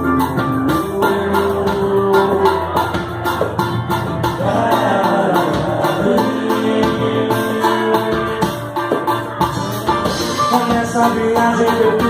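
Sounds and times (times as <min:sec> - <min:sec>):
samba band playing: 0:00.0 - 0:12.0
steady percussion: 0:00.0 - 0:12.0.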